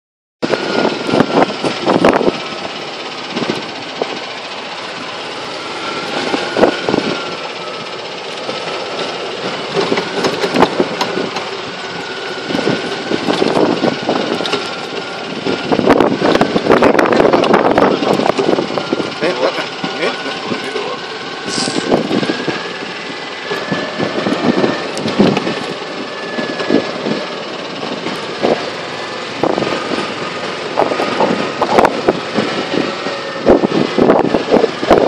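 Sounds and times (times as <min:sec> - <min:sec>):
cart body rattling over bumps: 0:00.4 - 0:35.0
golf cart motor whine: 0:00.4 - 0:35.0.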